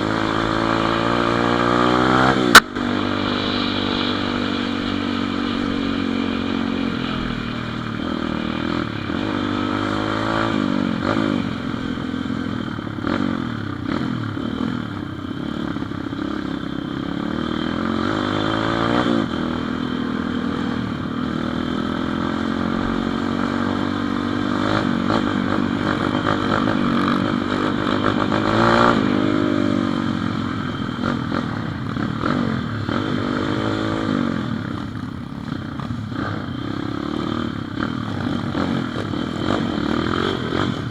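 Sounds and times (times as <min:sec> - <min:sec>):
motorbike engine revving: 0:00.0 - 0:40.9.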